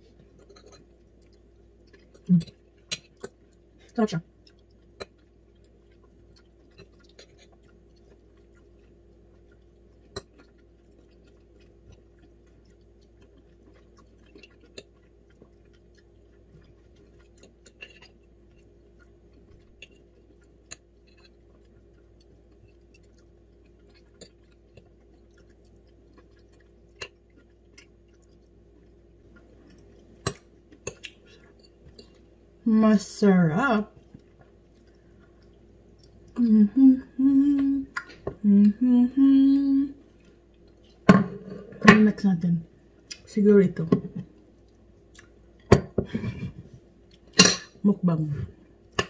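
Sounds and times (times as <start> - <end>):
chewing and mouth sounds: 0.0 - 32.4, 33.9 - 36.4, 37.0 - 38.8, 40.0 - 41.1, 44.2 - 45.7, 47.0 - 47.4
faint steady hum: 0.0 - 49.0.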